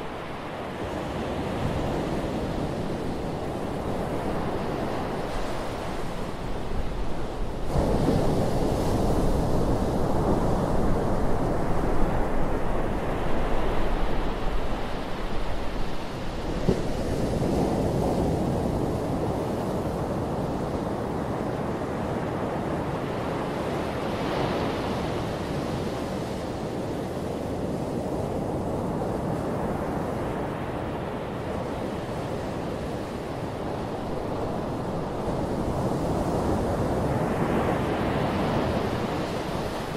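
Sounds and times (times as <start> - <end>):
ocean waves washing up beach: 0.0 - 39.9.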